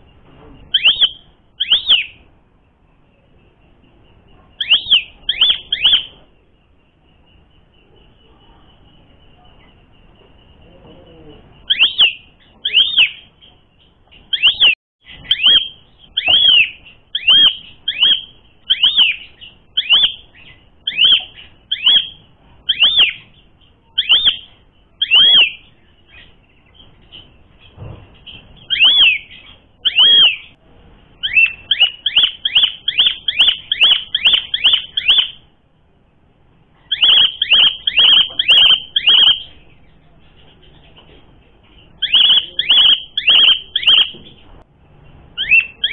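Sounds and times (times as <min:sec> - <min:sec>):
starling calling: 0:00.0 - 0:02.4, 0:03.2 - 0:35.6, 0:36.4 - 0:45.9.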